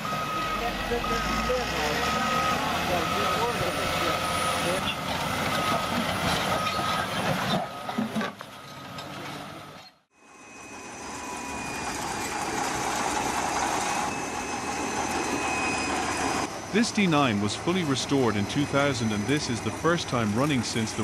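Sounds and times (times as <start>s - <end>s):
bulldozer diesel engine running: 0.0s - 21.0s
second bulldozer engine: 0.0s - 21.0s.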